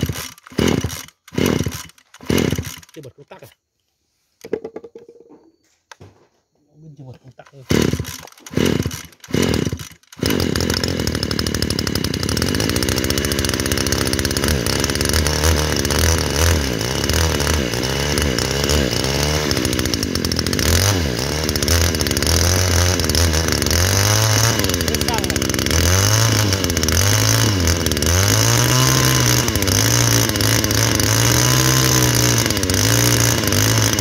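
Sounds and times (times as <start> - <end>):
engine pull-start tug: 0.0 - 3.2, 7.4 - 34.0
brush cutter engine revving: 0.0 - 3.6, 7.3 - 34.0.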